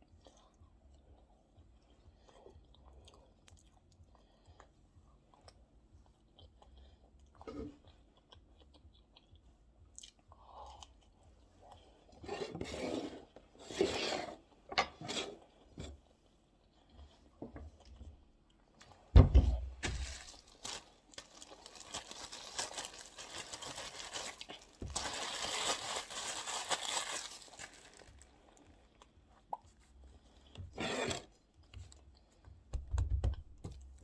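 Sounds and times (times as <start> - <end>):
person chewing food: 0.0 - 13.6, 14.4 - 19.1, 19.8 - 34.0.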